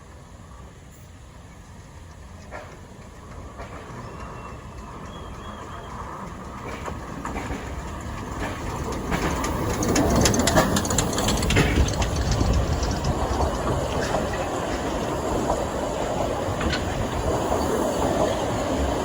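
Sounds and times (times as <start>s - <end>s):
train wheels clattering over rails: 1.4s - 19.0s.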